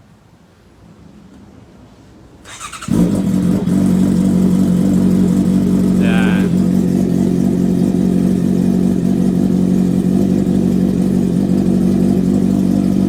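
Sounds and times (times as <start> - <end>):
motorcycle engine idling: 2.5 - 13.0.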